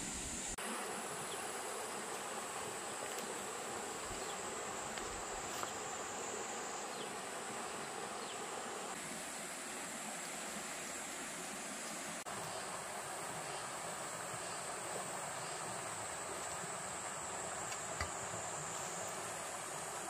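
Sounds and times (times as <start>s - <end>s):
insects buzzing: 0.0s - 20.0s
stream running: 0.0s - 20.0s.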